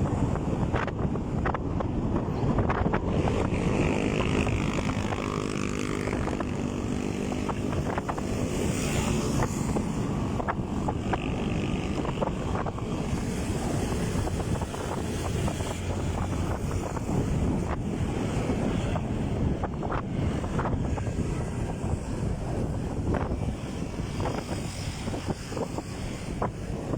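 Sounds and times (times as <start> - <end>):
wind rushing over microphone: 0.0 - 26.9
motorcycle engine running: 2.6 - 26.4.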